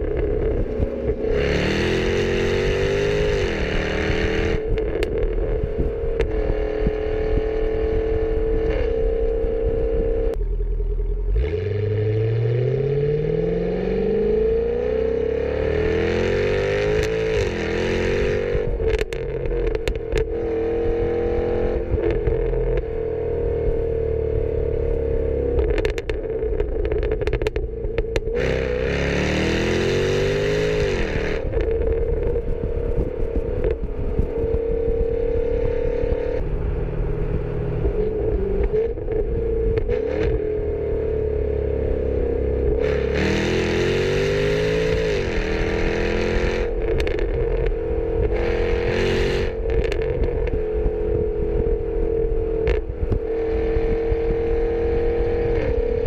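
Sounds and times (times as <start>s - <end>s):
exhaust cracks: 0.0s - 12.0s, 16.9s - 29.2s, 30.0s - 43.2s, 44.3s - 56.0s
car engine exhaust revving: 0.0s - 56.0s.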